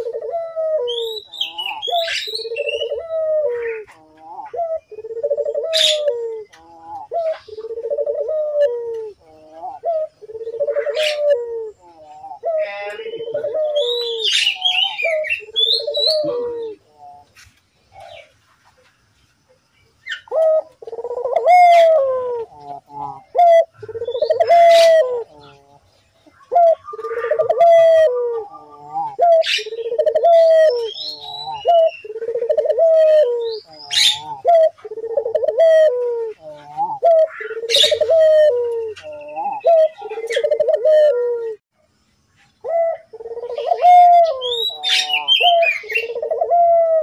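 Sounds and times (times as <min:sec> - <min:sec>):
dove cooing: 0:00.0 - 0:18.3, 0:20.0 - 0:41.6, 0:42.6 - 0:47.0
small birds chirping: 0:00.0 - 0:47.0.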